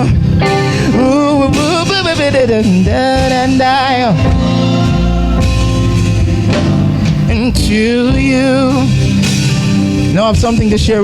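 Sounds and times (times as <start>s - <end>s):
man singing gospel: 0.0s - 9.4s, 10.0s - 11.0s
instrumental accompaniment: 0.0s - 10.8s.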